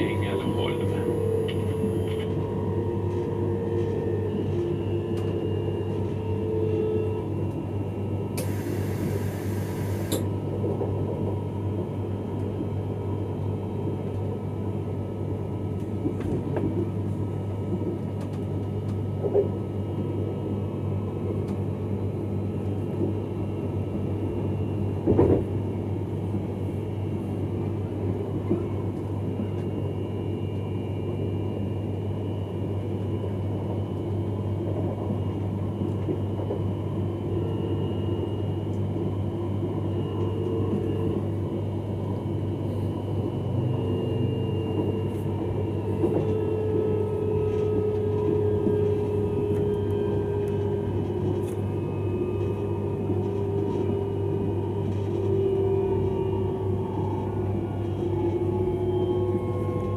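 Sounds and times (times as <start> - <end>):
train rumble and hum: 0.0 - 59.9.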